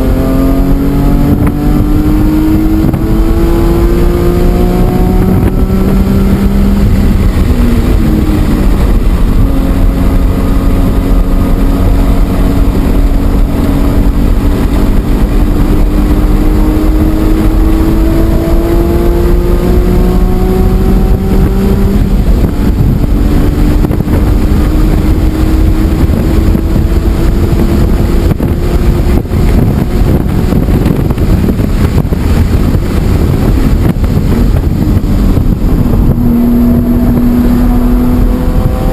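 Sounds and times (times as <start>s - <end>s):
car engine pulling hard: 0.0s - 38.9s
wind and road noise: 0.0s - 38.9s.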